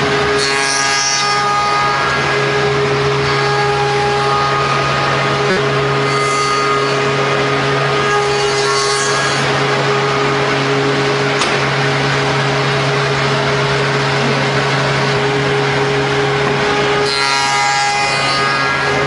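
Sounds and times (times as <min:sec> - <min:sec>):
machine motor hum and whine: 0:00.0 - 0:19.0.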